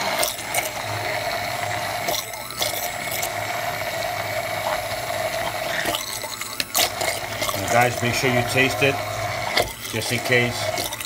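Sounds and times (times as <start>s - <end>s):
immersion blender motor whine: 0.0s - 11.0s.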